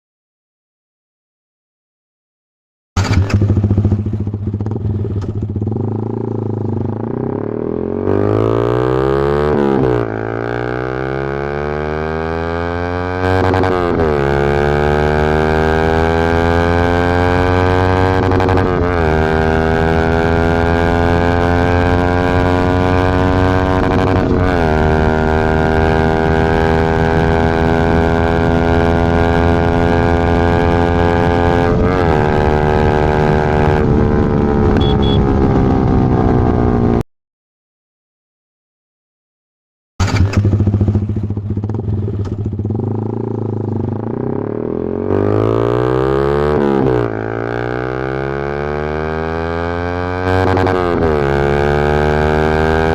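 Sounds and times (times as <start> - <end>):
motorcycle engine revving through gears: 3.0 - 37.0, 40.0 - 52.9.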